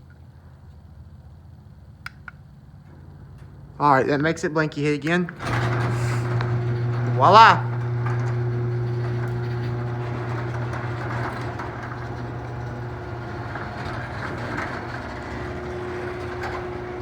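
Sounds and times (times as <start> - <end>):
garage door opener humming: 0.8 - 17.0.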